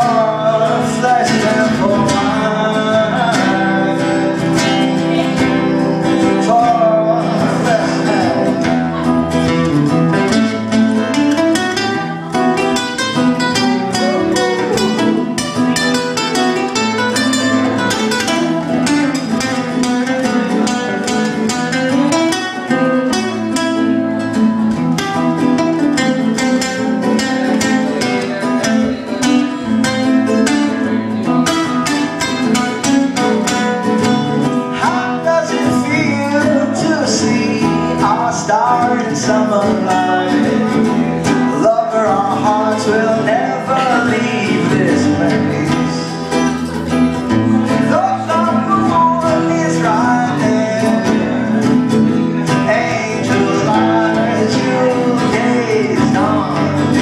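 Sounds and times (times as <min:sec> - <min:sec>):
acoustic guitars strummed: 0:00.0 - 0:57.0
man singing: 0:00.0 - 0:57.0.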